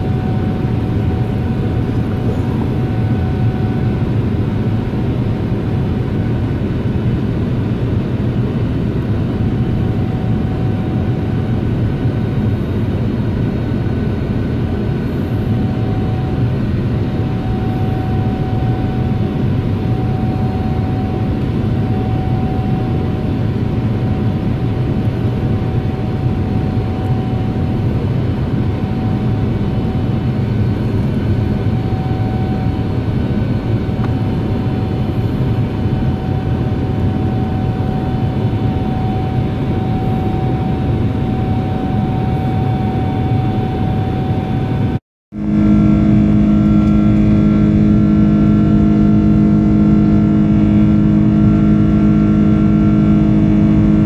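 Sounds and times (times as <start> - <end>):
faint steady whine: 0.0 - 54.0
jet airliner cabin noise: 0.0 - 54.0
low engine hum: 0.0 - 54.0.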